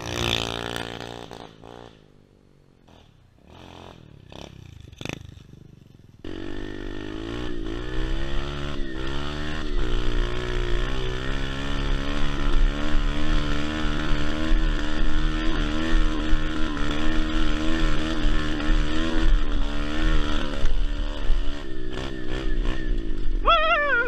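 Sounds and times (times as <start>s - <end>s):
motorbike engine revving: 0.0s - 2.2s, 2.8s - 24.0s.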